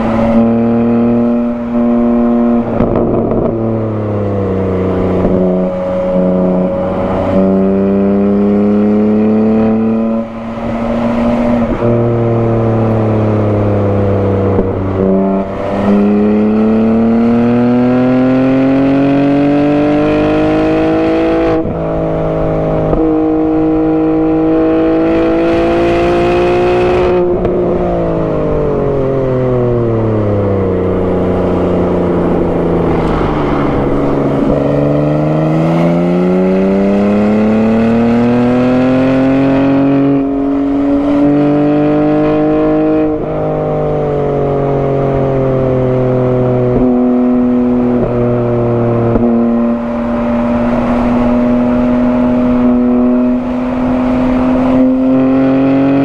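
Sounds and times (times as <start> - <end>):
car engine and exhaust revving: 0.0 - 56.0.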